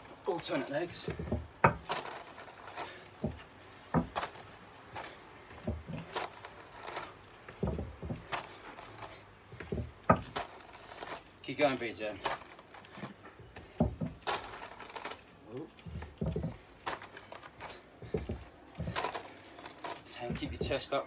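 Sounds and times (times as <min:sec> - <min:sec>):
footsteps on gravel and stone: 0:00.0 - 0:21.0.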